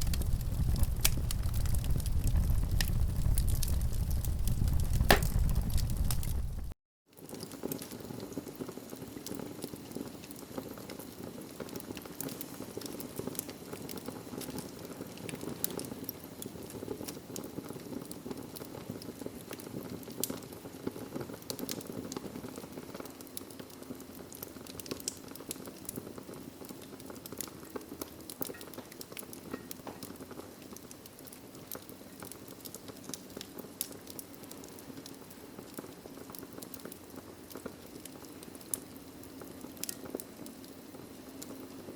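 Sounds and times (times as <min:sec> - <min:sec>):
fireplace fire crackling: 0:00.0 - 0:41.9.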